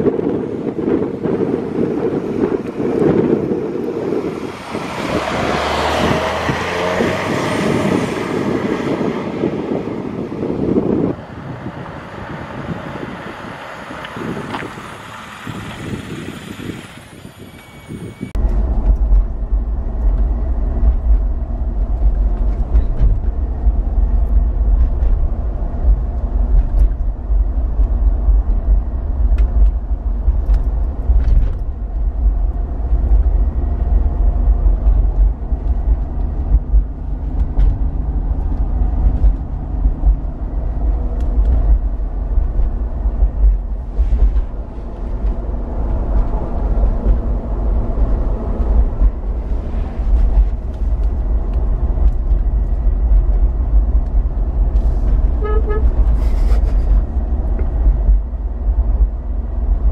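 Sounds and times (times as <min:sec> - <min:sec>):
car engine hum: 0:00.0 - 0:59.9
road and tyre rumble: 0:00.0 - 0:59.9.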